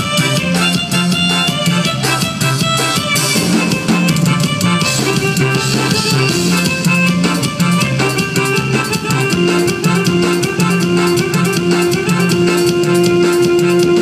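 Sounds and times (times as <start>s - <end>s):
bass guitar: 0.0s - 14.0s
drum kit: 0.0s - 14.0s
electronic keyboards: 0.0s - 14.0s.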